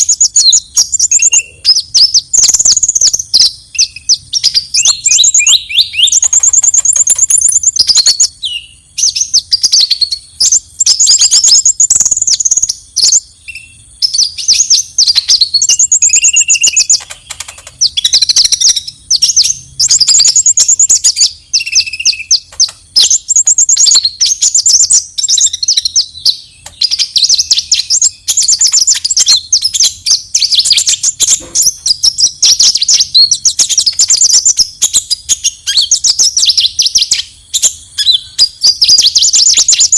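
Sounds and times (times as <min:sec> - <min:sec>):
bird high-pitched trills and chatter: 0:00.0 - 0:39.9.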